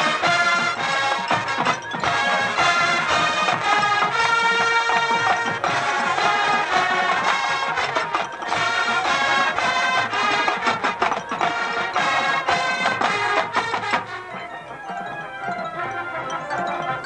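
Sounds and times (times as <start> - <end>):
brass chords: 0.0 - 17.0
drumline hits: 0.0 - 17.0.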